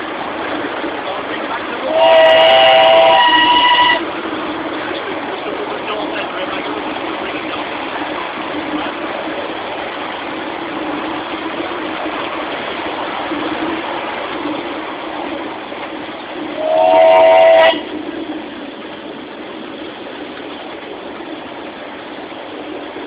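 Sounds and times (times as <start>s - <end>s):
miniature train running: 0.0s - 23.0s.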